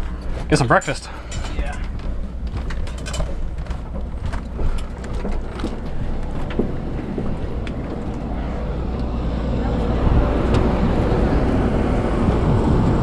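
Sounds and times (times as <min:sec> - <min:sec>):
footsteps: 0:00.0 - 0:10.7
steady low hum: 0:00.0 - 0:13.0.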